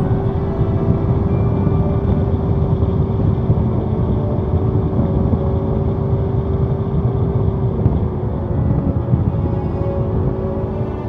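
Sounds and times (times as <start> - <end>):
engine hum: 0.0 - 11.0
wind and tyre noise: 0.0 - 11.0.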